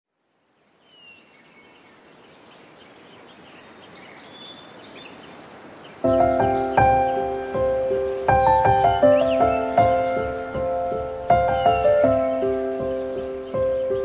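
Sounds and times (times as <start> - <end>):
soft steady hiss: 0.1 - 14.0
birds chirping: 0.5 - 14.0.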